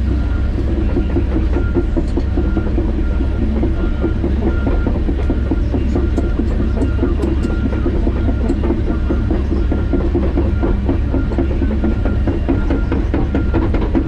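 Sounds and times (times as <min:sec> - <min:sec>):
excavator diesel engine running: 0:00.0 - 0:14.0
clanking and rattling: 0:00.4 - 0:14.0.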